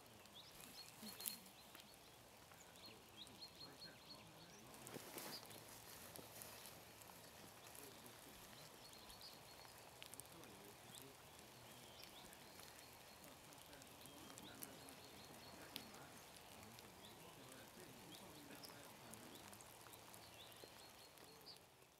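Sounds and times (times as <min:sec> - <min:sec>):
faint murmur of voices: 0:00.0 - 0:21.7
small birds chirping: 0:00.0 - 0:21.9.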